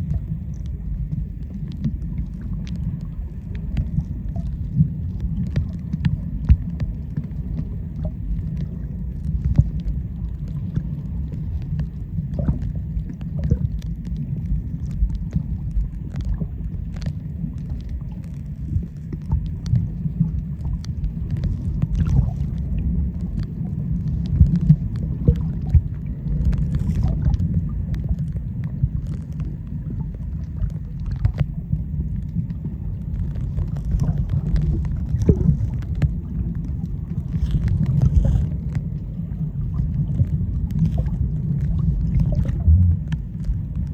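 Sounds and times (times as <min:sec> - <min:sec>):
small underwater clicks: 0:00.0 - 0:43.9
underwater water rumble: 0:00.0 - 0:43.9.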